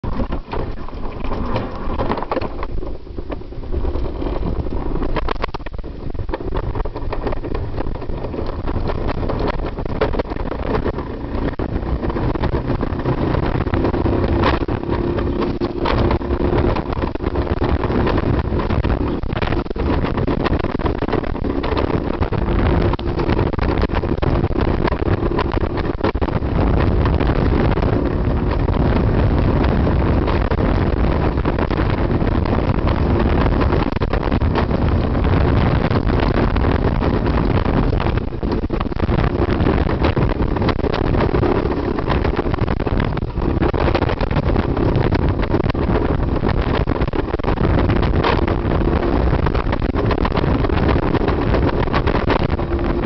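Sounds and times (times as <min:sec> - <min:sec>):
sled rumbling on track: 0:00.0 - 0:53.0
wind on microphone: 0:00.0 - 0:53.0.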